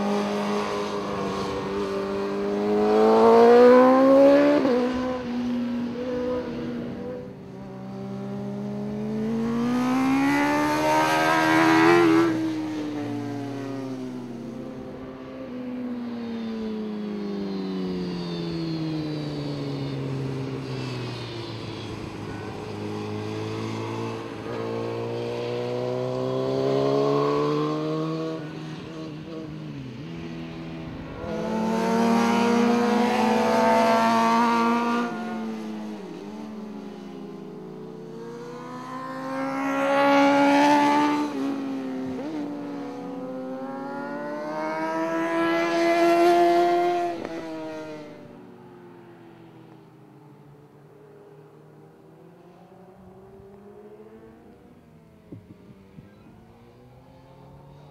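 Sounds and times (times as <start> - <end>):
motorcycle engines revving: 0.0 - 57.9.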